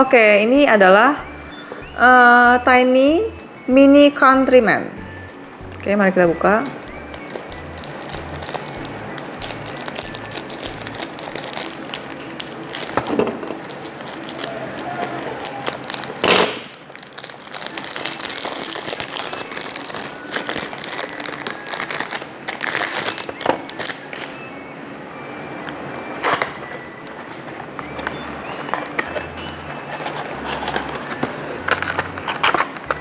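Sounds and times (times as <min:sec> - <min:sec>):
background music: 0:00.0 - 0:33.0
plastic shrink-wrap crinkling: 0:05.6 - 0:24.6, 0:25.2 - 0:33.0.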